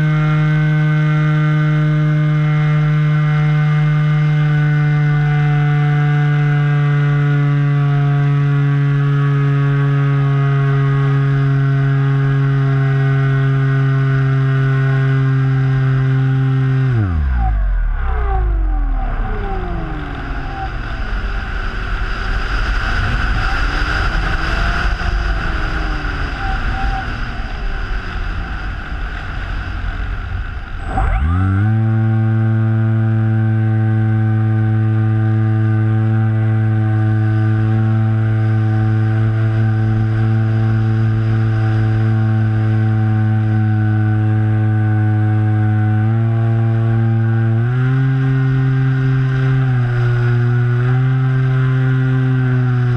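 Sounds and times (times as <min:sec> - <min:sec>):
electric motor and propeller whine: 0:00.0 - 0:52.9.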